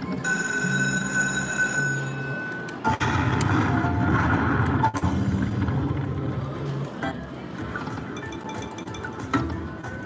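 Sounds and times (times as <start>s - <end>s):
slot machine electronic sounds: 0.2s - 5.9s, 7.0s - 10.0s.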